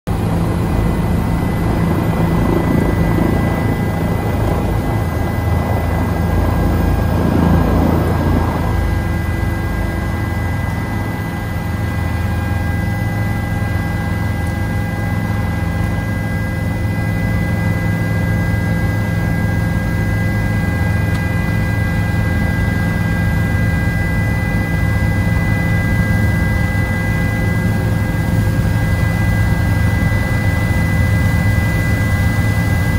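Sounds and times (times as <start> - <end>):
helicopter engine whine: 0.1 - 32.9
helicopter rotor drone: 0.1 - 32.9.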